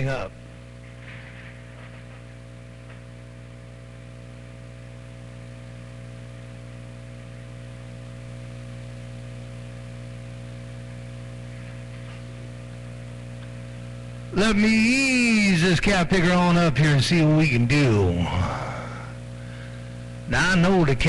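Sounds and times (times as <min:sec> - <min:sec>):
electrical mains hum: 0:00.0 - 0:21.0
radio hiss: 0:00.0 - 0:21.0.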